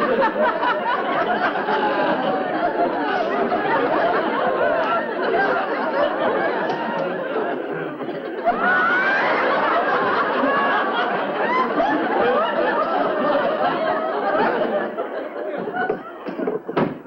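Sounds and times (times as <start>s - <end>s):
audience laughter: 0.0s - 16.8s.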